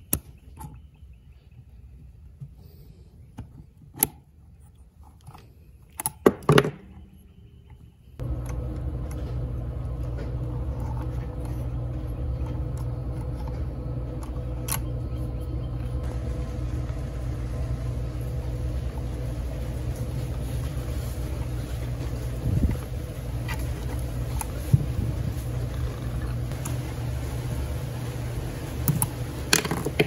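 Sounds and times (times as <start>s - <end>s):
steady low machinery hum: 0.0s - 30.0s.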